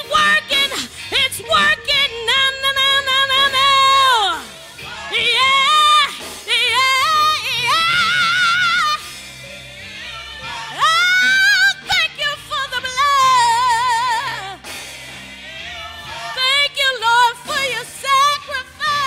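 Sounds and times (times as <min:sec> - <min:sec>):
woman singing gospel with vibrato: 0:00.0 - 0:19.0.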